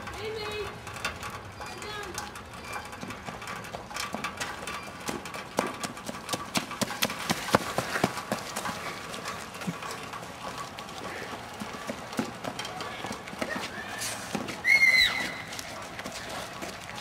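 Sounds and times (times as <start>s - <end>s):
running footsteps: 0.0s - 17.0s.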